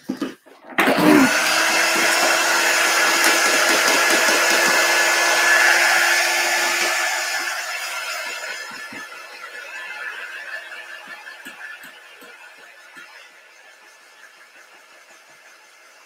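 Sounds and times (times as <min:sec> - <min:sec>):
heat gun running: 0:00.8 - 0:16.0.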